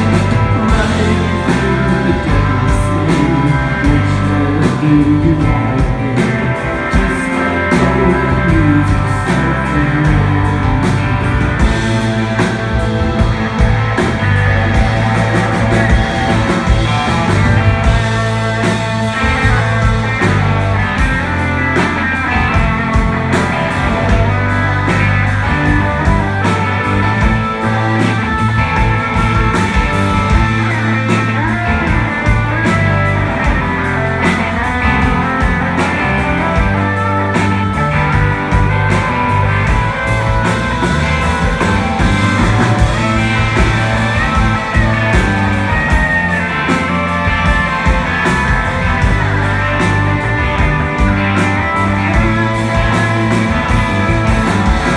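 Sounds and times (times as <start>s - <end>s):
lead electric guitar: 0.0s - 54.9s
live rock band playing: 0.0s - 54.9s.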